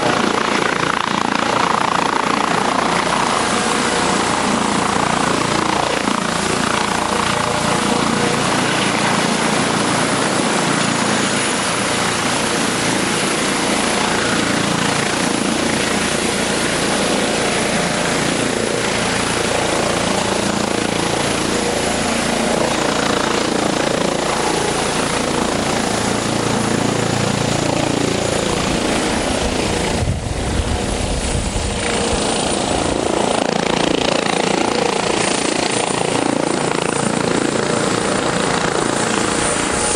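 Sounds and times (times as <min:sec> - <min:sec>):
helicopter engines and rotors: 0:00.0 - 0:39.9.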